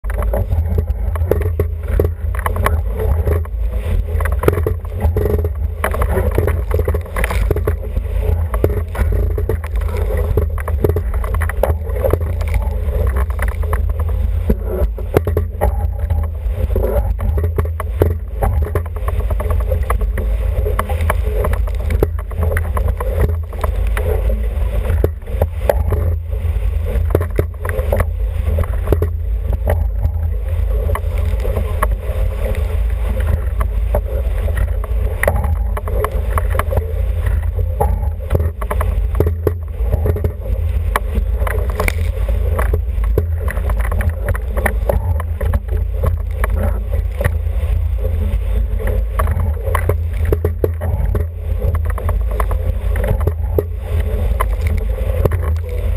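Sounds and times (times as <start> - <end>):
water splashing against hull: 0.0 - 55.9.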